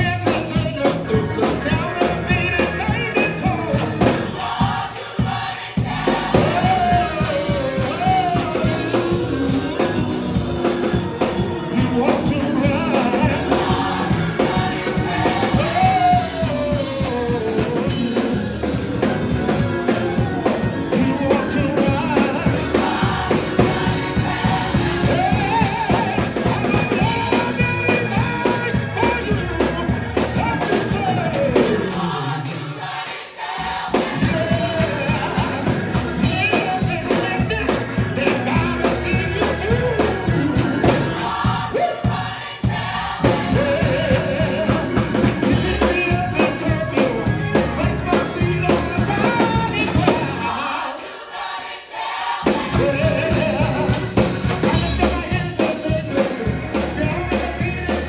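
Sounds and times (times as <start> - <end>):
gospel choir singing: 0.0 - 58.0
organ: 0.0 - 58.0
steady rhythmic beat: 0.0 - 58.0.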